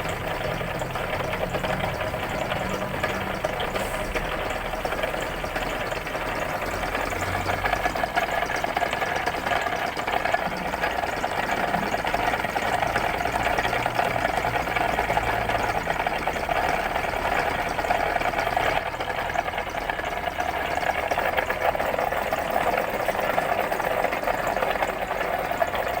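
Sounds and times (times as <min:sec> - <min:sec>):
machine tool running: 0:00.0 - 0:26.0.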